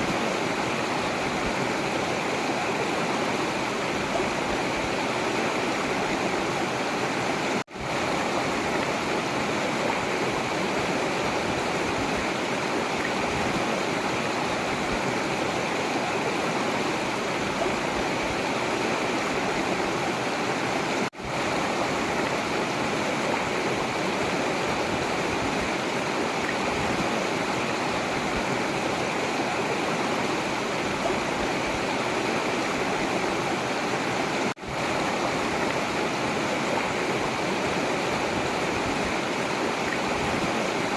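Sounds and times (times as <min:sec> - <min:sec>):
river water rushing and splashing: 0:00.0 - 0:40.9.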